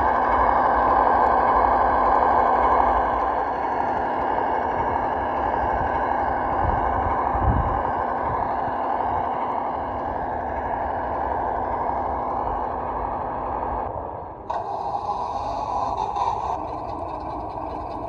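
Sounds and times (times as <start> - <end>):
simulated truck engine through small speaker: 0.0 - 18.0.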